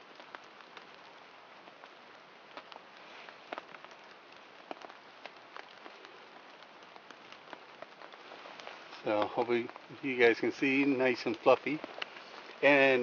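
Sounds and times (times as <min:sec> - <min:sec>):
rain hissing: 0:00.0 - 0:13.0
raindrops ticking: 0:00.0 - 0:13.0.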